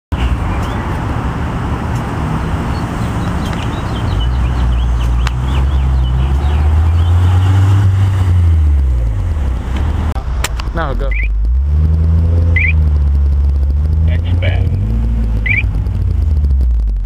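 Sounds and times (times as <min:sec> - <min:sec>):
car exhaust humming: 0:00.1 - 0:17.0
deep exhaust drone: 0:03.0 - 0:17.0.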